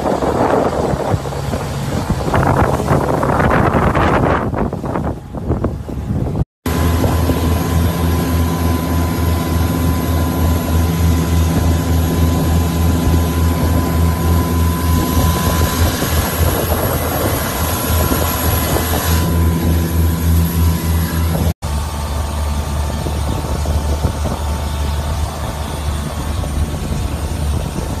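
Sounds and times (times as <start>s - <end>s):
motorboat engine droning: 0.0s - 28.0s.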